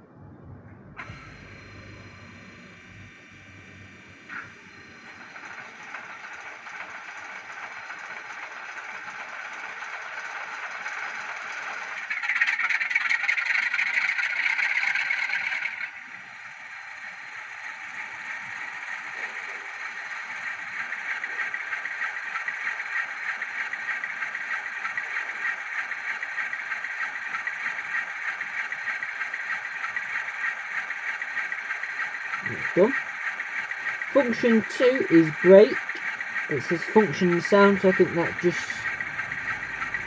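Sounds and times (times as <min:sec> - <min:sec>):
diesel engine sound through small speaker: 0:00.0 - 0:40.0.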